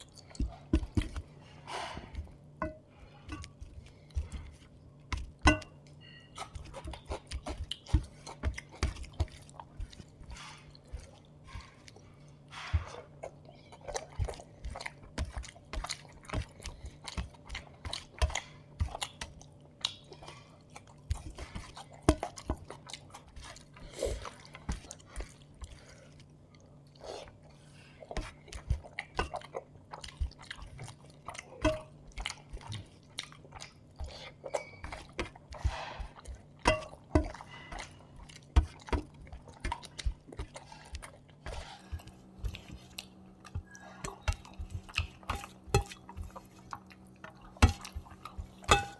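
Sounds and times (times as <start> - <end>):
wet chewing: 0.0 - 48.9.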